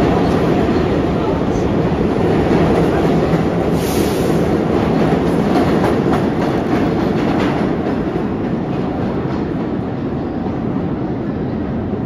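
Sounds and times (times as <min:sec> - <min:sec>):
subway train rumbling on rails: 0:00.0 - 0:12.0.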